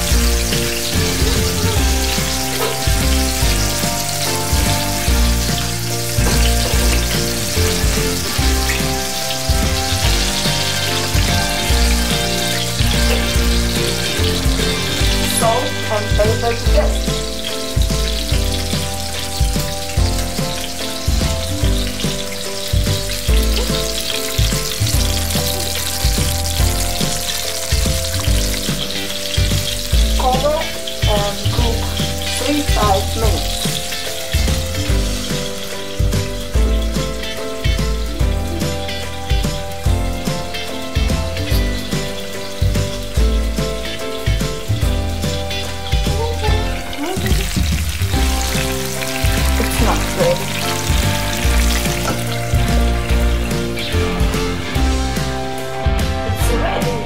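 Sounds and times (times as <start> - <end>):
background music with bass line: 0.0 - 57.0
eggs and tomatoes sizzling in a pan: 0.0 - 57.0.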